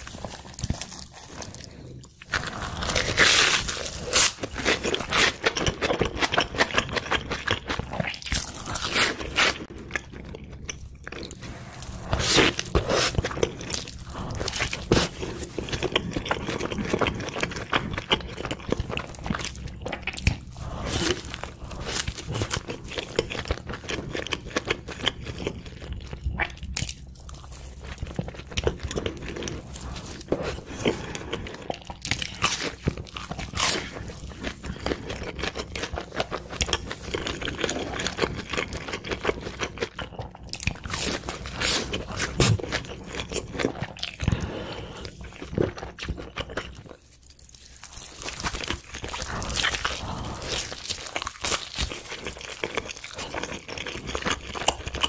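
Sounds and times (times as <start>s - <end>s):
crunchy bites and chewing: 0.0s - 55.0s.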